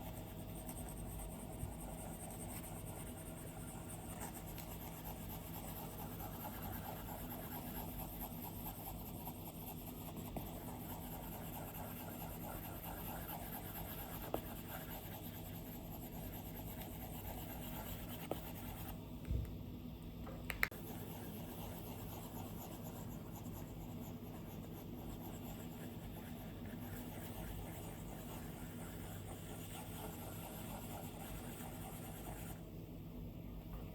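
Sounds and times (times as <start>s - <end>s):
stylus scratching on screen: 0.0s - 19.0s, 20.7s - 32.6s.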